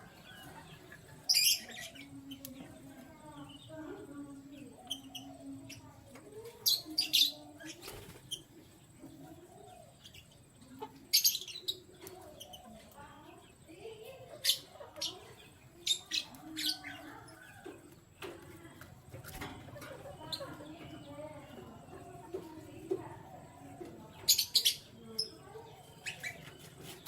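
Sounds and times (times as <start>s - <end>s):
canaries chirping: 0.0s - 27.0s.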